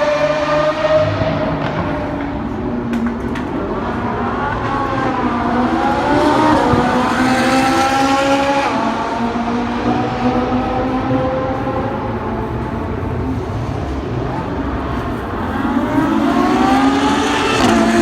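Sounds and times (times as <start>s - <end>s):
supercar engine accelerating: 0.0s - 18.0s.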